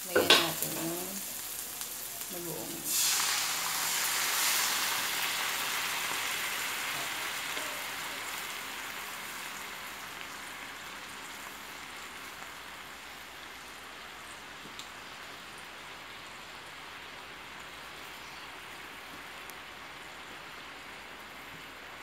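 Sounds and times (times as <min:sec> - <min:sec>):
paste sizzling in oil: 0:00.0 - 0:21.5.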